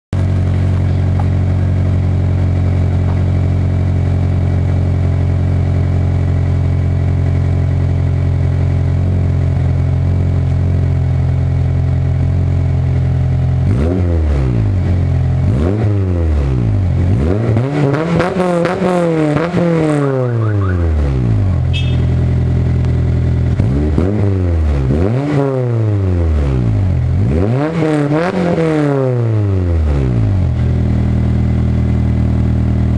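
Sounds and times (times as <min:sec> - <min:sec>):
car engine idling and revving: 0:00.2 - 0:32.9.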